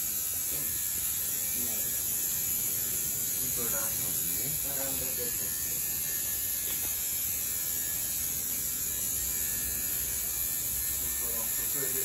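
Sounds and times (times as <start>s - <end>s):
small electric motor buzzing: 0.0s - 12.0s.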